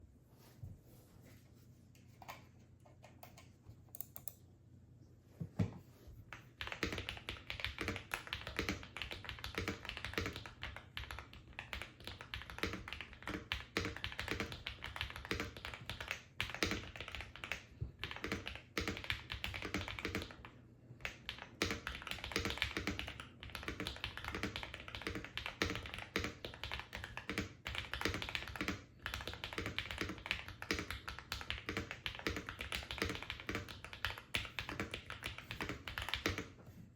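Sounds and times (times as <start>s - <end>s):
mechanical keyboard typing: 6.3s - 36.6s.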